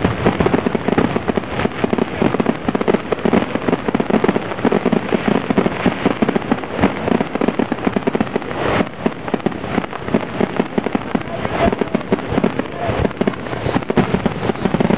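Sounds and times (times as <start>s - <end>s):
fireworks rapid bangs: 0.0s - 14.9s.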